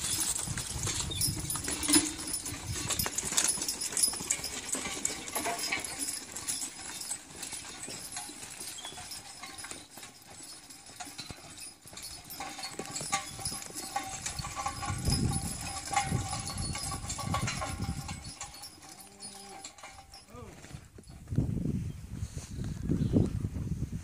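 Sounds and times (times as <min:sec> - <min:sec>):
horse hooves clopping on dirt: 0:00.0 - 0:21.6.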